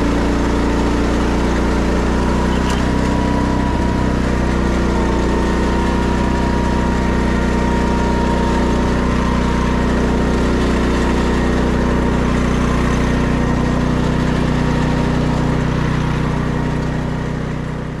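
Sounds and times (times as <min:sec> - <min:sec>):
weeder engine running: 0:00.0 - 0:18.0.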